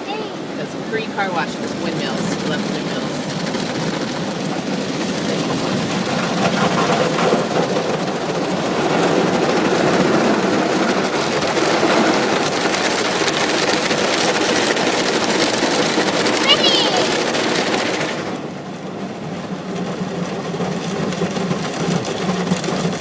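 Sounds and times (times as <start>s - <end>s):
water spray drumming on car: 0.6s - 18.4s, 19.6s - 23.0s.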